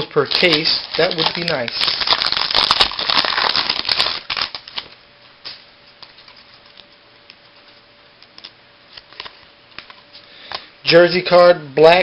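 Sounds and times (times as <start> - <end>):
cards being flipped through: 0.0 - 10.7.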